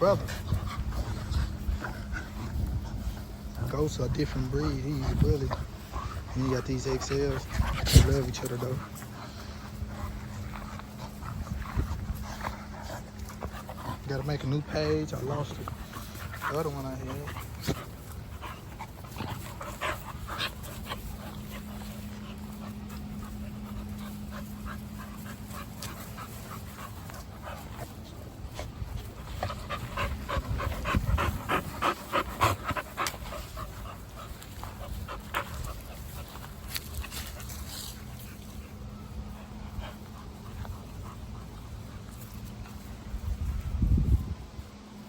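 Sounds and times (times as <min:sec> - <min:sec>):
dog panting: 0:00.0 - 0:44.0.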